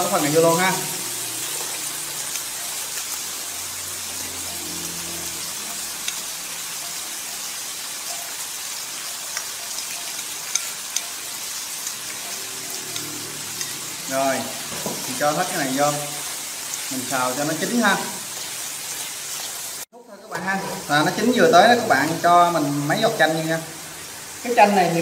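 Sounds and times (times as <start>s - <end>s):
seafood sizzling in oil: 0.0s - 25.0s.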